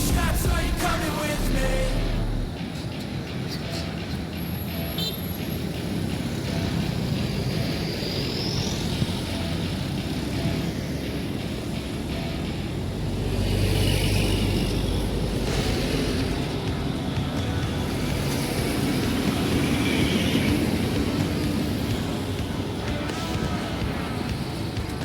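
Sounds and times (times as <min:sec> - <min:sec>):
heavy truck engine running: 0:00.0 - 0:25.0
road noise: 0:00.0 - 0:25.0.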